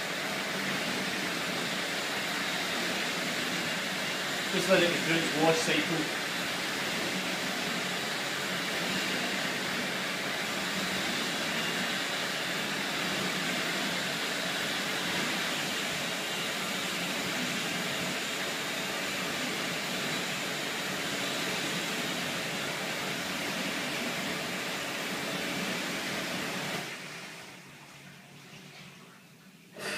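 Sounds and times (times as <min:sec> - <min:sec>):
dishwasher water spraying: 0:00.0 - 0:27.1.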